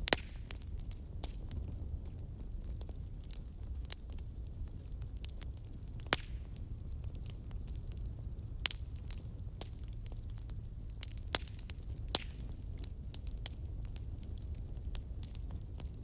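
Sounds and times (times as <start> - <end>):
campfire flame rumble: 0.0 - 16.0.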